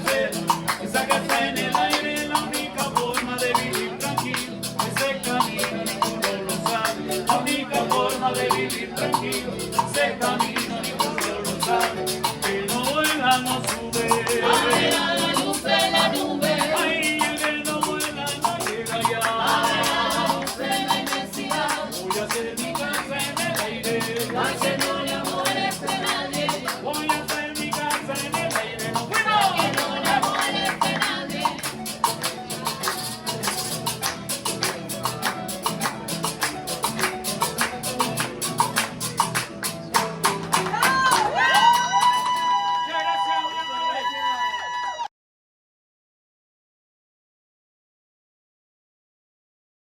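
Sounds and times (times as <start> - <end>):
acoustic guitar and harp music: 0.0 - 42.5
hand percussion: 0.0 - 42.7.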